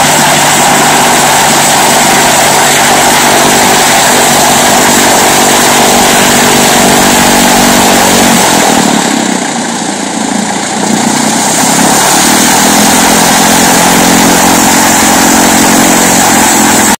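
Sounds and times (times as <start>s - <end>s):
aircraft engine and propeller running: 0.0s - 16.9s.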